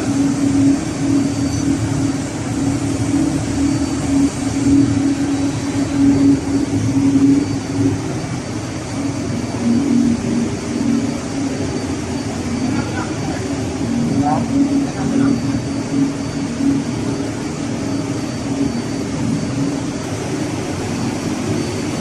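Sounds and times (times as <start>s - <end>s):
engine-room machinery drone: 0.0s - 22.0s.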